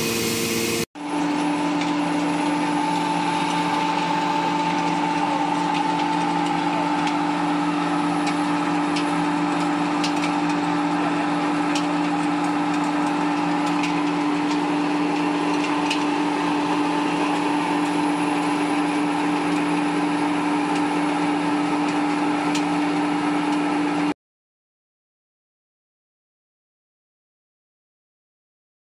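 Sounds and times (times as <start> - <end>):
pellet mill machine hum: 0.0 - 24.2.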